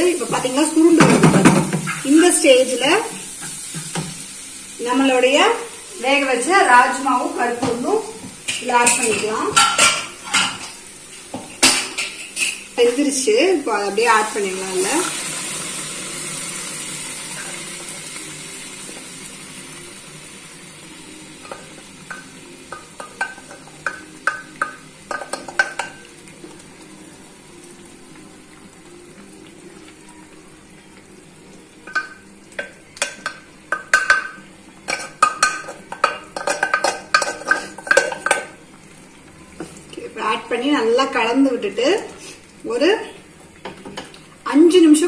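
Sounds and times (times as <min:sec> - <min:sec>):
beans sizzling in a pan: 0:00.0 - 0:45.0.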